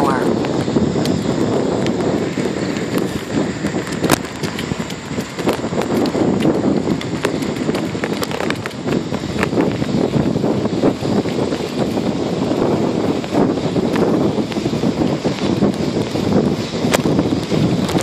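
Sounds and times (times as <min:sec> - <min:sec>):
bike clicks and knocks: 0:00.0 - 0:18.0
wind buffeting microphone: 0:00.0 - 0:18.0.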